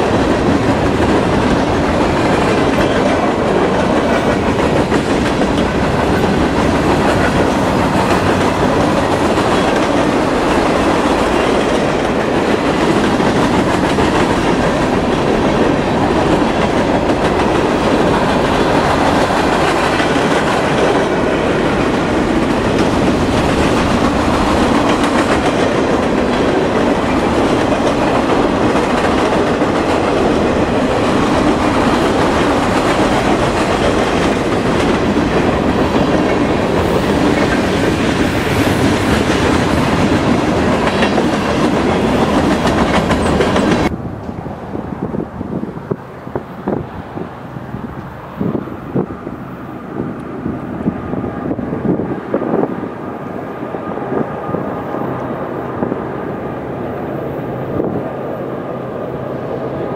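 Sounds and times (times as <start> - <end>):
freight train cars rolling past: 0.0 - 59.9.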